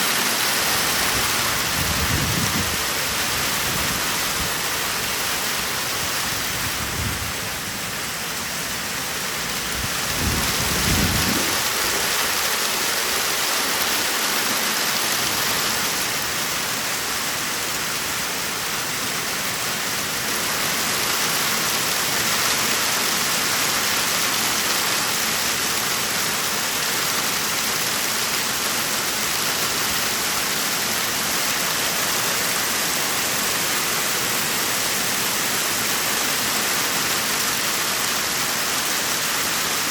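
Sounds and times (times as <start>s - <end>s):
heavy rain and hail: 0.0s - 39.9s.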